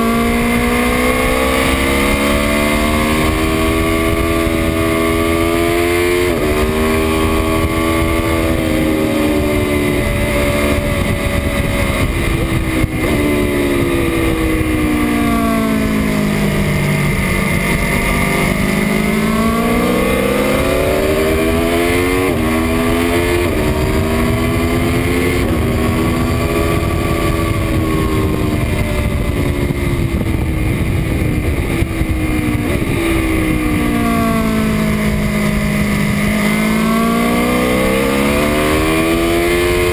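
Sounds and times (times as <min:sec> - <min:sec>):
motorcycle engine accelerating: 0:00.0 - 0:39.9
wind rushing: 0:02.9 - 0:39.9.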